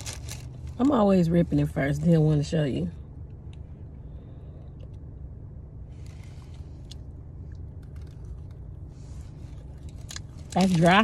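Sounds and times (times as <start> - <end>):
car low rumble: 0.0 - 11.0.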